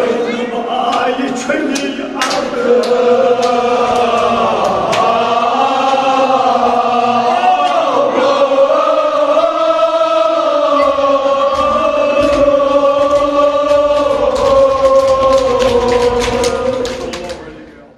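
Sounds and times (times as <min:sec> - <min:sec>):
men chanting through a microphone: 0:00.0 - 0:17.6.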